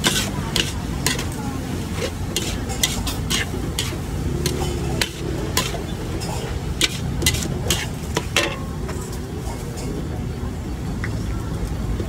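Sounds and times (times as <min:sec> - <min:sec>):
kitchen utensils clinking on metal: 0:00.0 - 0:10.1.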